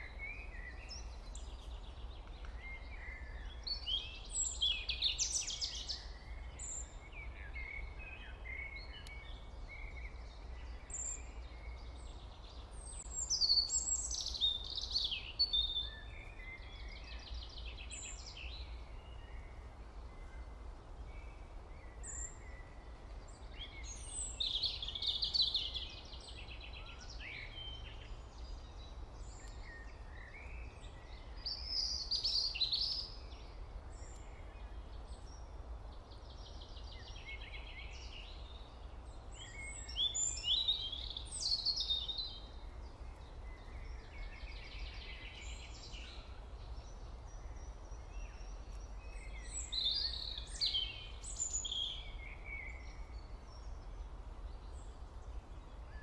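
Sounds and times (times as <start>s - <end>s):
birds chirping and singing: 0.0s - 19.4s, 21.8s - 35.4s, 36.2s - 53.7s.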